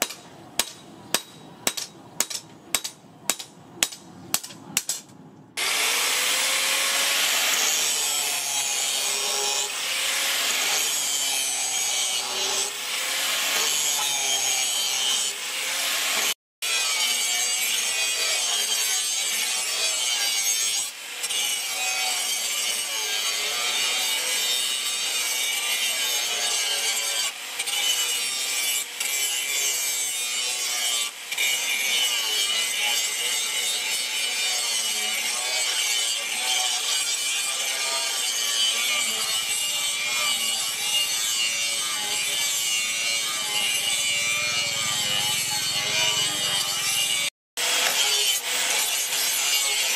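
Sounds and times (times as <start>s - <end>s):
angle grinder grinding steel: 4.7s - 49.9s.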